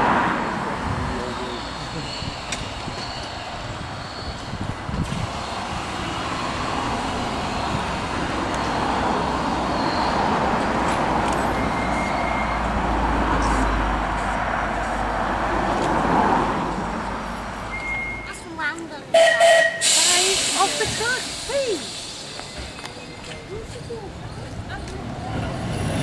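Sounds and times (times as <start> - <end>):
tram running on rails: 0.0 - 26.0.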